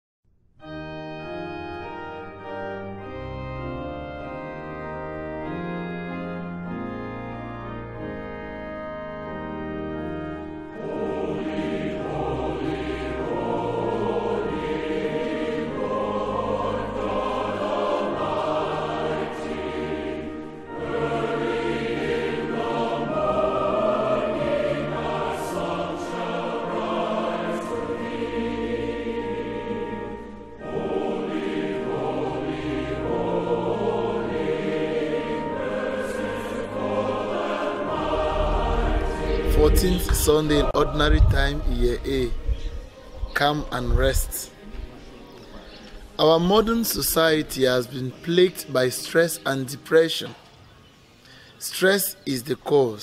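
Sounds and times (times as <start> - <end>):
organ chords: 0.4 - 53.0
choir singing: 0.7 - 53.0.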